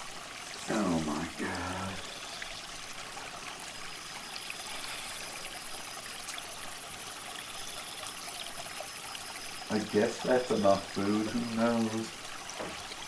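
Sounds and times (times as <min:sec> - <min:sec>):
aquarium water trickling: 0:00.0 - 0:13.0.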